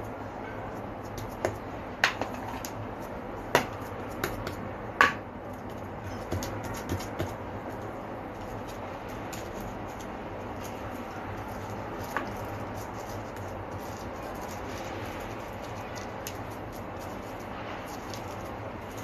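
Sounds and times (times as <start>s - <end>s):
dough rustling under hands: 0.0s - 19.0s.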